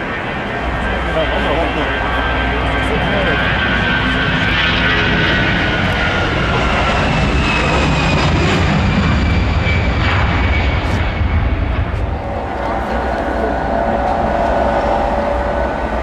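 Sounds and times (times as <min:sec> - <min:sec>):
jet engines rumbling with whine: 0:00.0 - 0:16.0.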